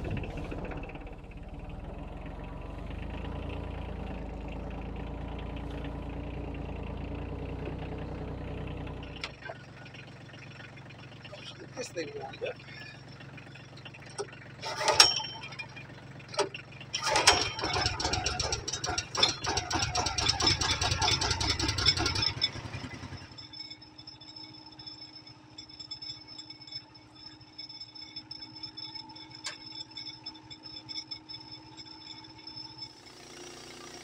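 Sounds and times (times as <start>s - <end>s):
diesel tractor engine rattling: 0.0s - 34.0s.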